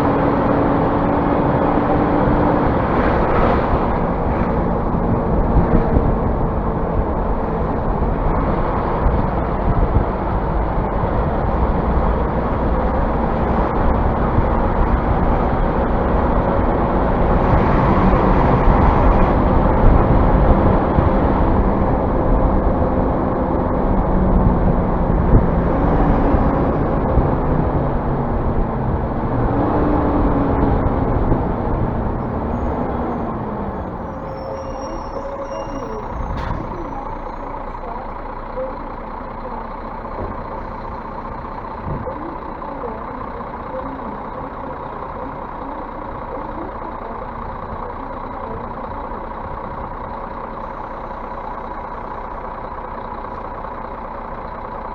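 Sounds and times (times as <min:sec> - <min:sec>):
bus engine rumble: 0:00.0 - 0:54.9
road noise: 0:00.0 - 0:54.9.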